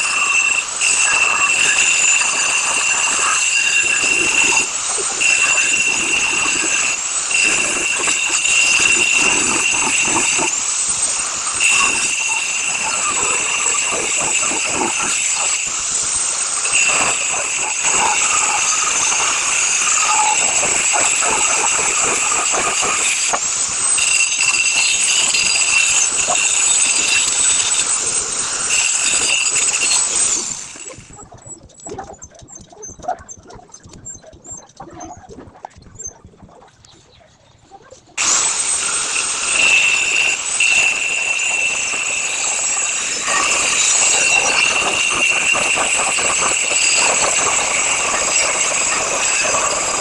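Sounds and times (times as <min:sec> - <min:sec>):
angle grinder cutting tile: 0:00.0 - 0:31.5, 0:38.2 - 0:50.0.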